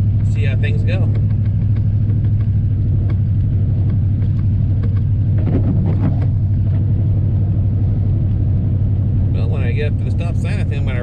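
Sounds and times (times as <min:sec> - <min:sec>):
pickup truck engine and road noise: 0:00.0 - 0:11.0.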